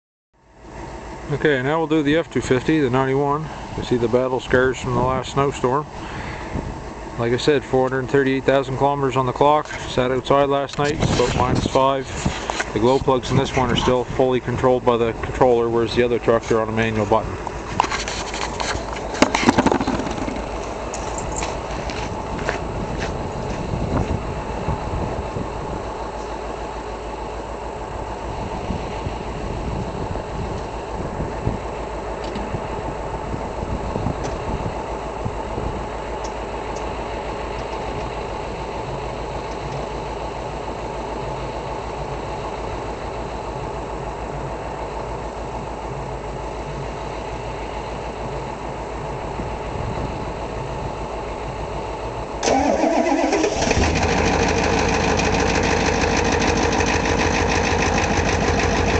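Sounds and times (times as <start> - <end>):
engine idling: 0.6 - 58.9
diesel engine starting and clattering: 1.0 - 58.9.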